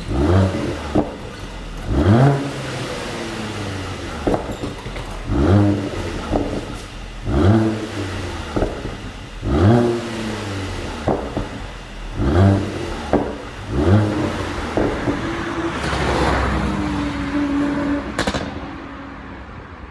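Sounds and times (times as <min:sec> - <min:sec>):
exhaust pops: 0:00.0 - 0:18.8
car engine revving: 0:00.0 - 0:19.6.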